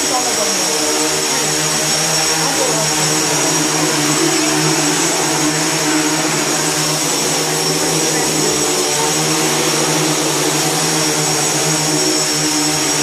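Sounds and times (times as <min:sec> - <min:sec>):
drone motors buzzing: 0:00.0 - 0:13.0.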